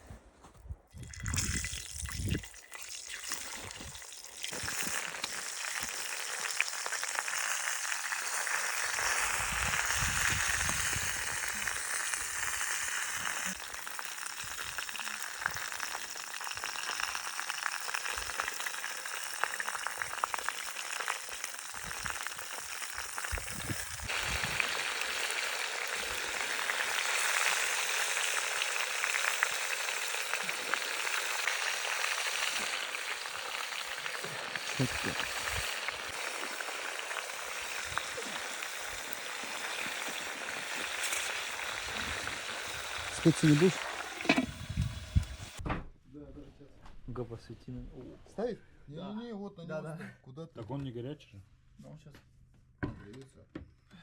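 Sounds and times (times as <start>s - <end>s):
food sizzling in hot fat: 1.0s - 45.6s.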